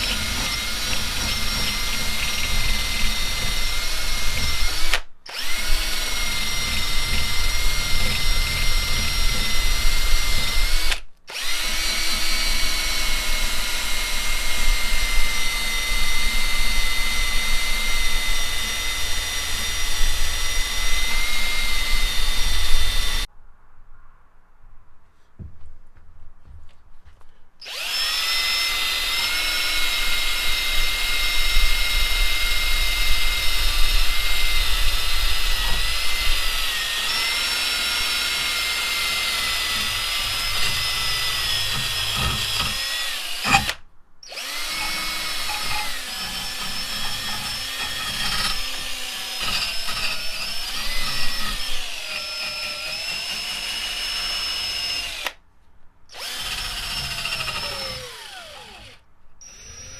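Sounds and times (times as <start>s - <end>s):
power tool motor whining: 0.0s - 23.3s, 27.6s - 55.4s, 56.1s - 59.9s.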